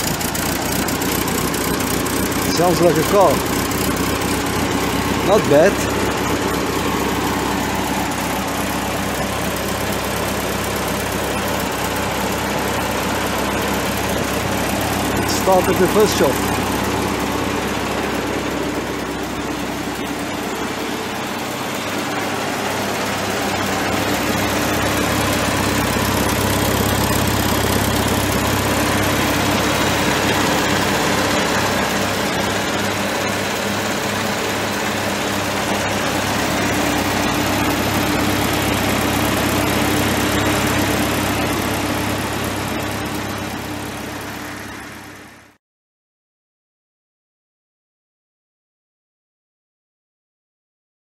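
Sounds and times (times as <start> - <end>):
tractor engine idling: 0.0 - 45.5.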